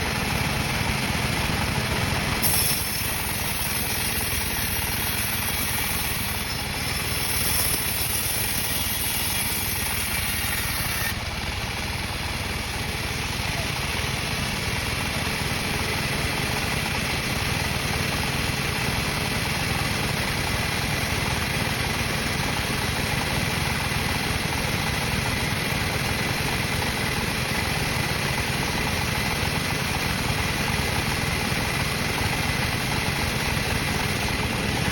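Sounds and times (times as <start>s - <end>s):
sawmill machinery droning: 0.0s - 34.9s.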